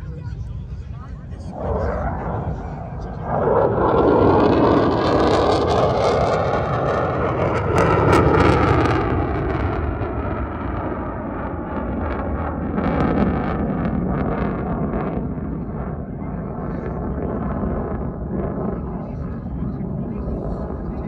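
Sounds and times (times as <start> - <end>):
aircraft flying overhead: 0.0 - 21.0.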